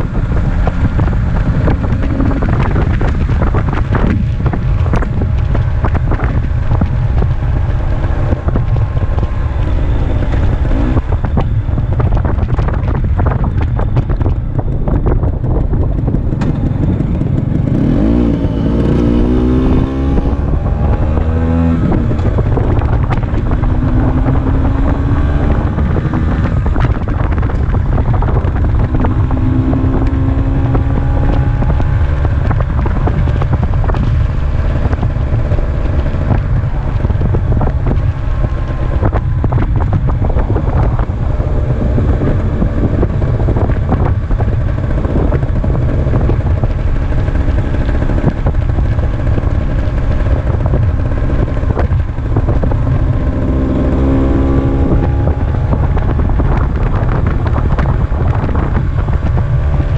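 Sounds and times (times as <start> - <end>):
scooter two-stroke engine: 0.0 - 59.9
wind buffeting microphone: 0.0 - 59.9.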